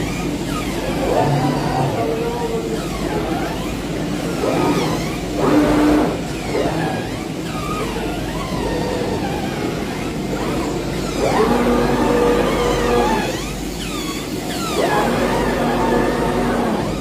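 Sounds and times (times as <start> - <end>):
cutting machine motors whining: 0.0 - 17.0.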